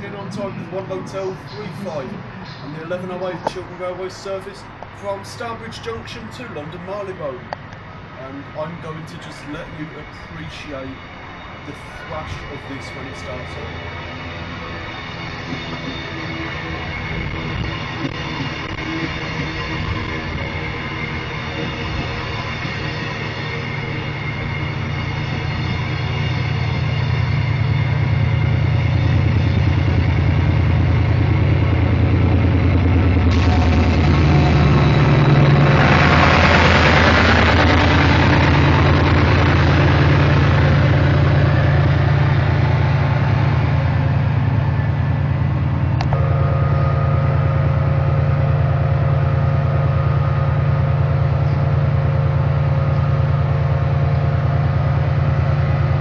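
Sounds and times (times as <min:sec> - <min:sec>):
diesel locomotive engine: 0:00.0 - 0:56.0
steady whine: 0:00.0 - 0:56.0.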